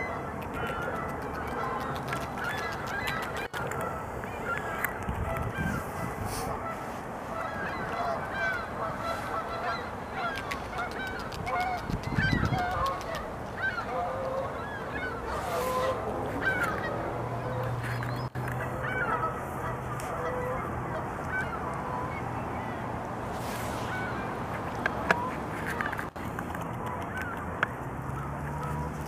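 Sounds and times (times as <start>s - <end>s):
geese honking: 0.0s - 22.8s, 23.8s - 26.2s.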